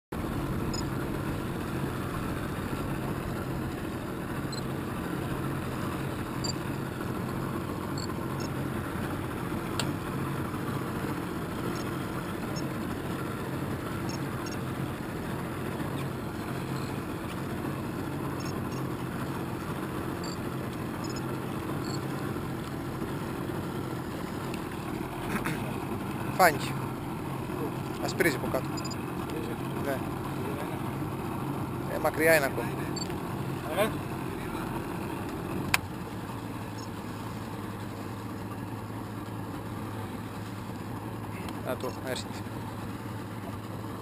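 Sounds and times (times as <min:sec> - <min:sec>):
outboard motor idling: 0:00.2 - 0:44.0.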